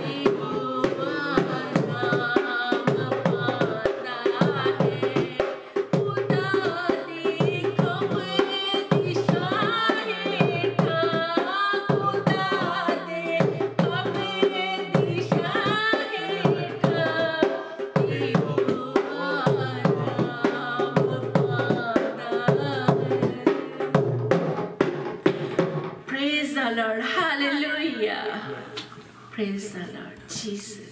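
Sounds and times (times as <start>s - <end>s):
regular drum beat: 0.0s - 26.7s.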